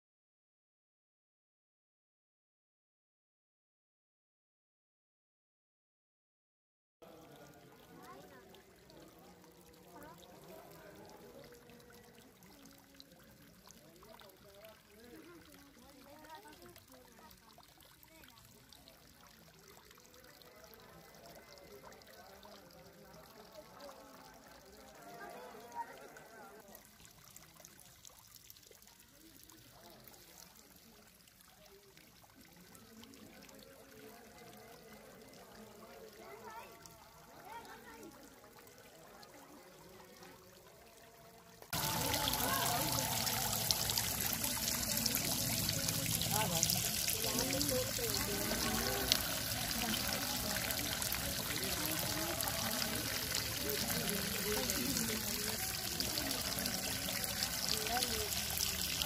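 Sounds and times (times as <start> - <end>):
water trickling and splashing: 7.0 - 59.0.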